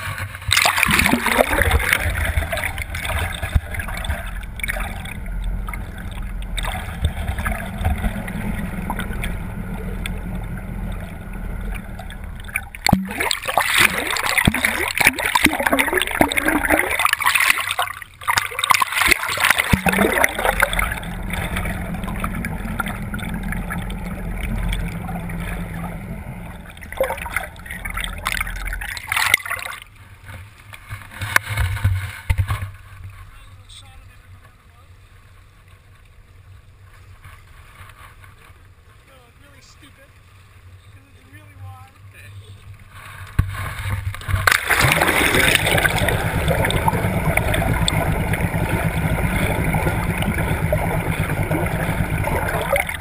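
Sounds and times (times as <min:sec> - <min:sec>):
water splashing and gurgling: 0:00.0 - 0:33.3, 0:42.0 - 0:53.0
boat engine hum: 0:00.0 - 0:53.0.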